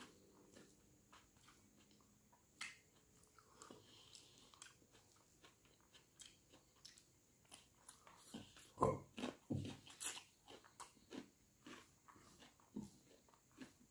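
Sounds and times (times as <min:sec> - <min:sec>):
chewing and mouth sounds: 0:00.0 - 0:13.9.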